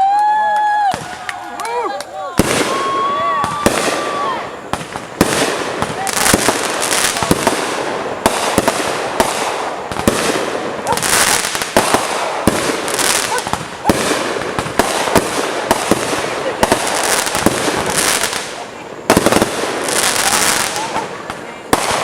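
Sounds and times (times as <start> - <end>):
fireworks bangs: 0.6 - 22.0
fireworks crackling hiss: 0.9 - 22.0.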